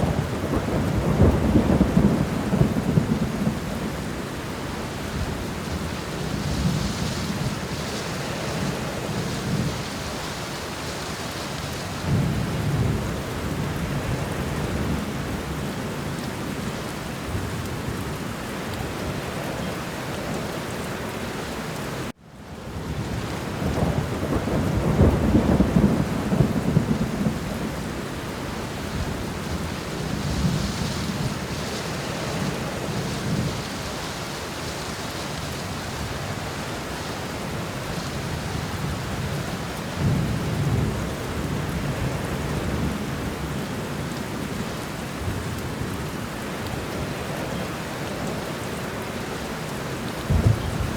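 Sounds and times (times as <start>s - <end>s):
rolling thunder rumbles: 0.0s - 10.8s, 11.9s - 16.6s, 22.7s - 34.2s, 35.6s - 48.7s, 49.5s - 50.9s
steady rain: 0.0s - 50.9s.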